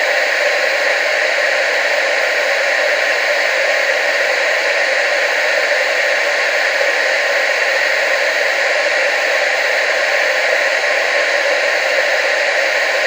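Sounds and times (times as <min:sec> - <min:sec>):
tv static hiss: 0:00.0 - 0:13.0.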